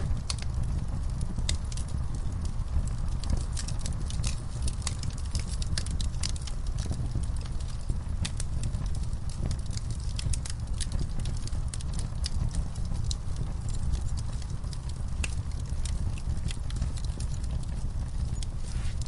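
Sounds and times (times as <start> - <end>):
logs crackling and popping: 0.0 - 19.0
low rumble of fire: 0.0 - 19.0.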